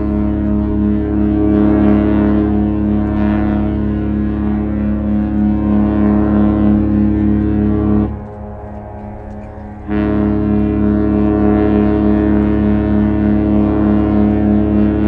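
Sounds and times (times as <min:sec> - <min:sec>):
ship's horn chord: 0:00.0 - 0:15.0.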